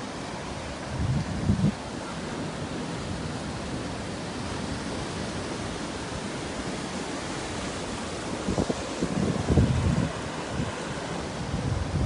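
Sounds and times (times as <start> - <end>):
surf washing over rocks: 0.0 - 12.0
wind rumble on microphone: 0.6 - 2.1, 3.0 - 12.0.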